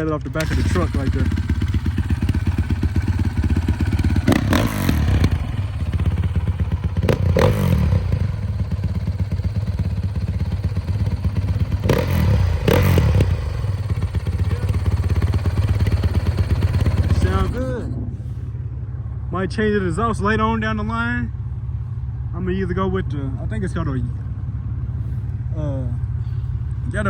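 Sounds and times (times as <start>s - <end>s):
dirt bike engine idling and revving: 0.0s - 27.0s.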